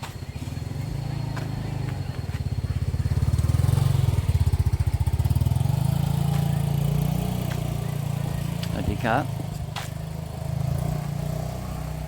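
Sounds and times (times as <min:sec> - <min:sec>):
small engine puttering: 0:00.0 - 0:12.0.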